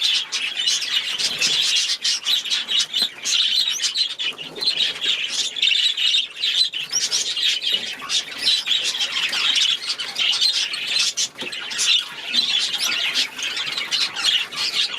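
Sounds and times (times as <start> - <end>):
cage birds chattering and chirping: 0.0 - 14.9.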